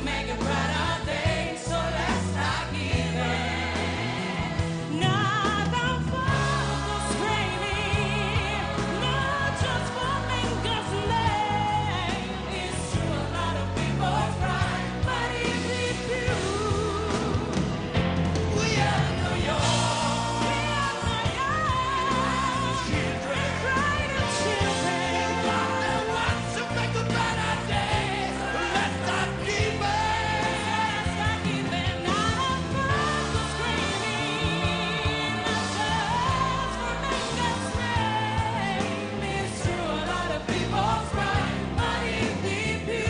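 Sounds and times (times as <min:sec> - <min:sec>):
pop song with singing: 0:00.0 - 0:43.0
steady bass line: 0:00.0 - 0:43.0.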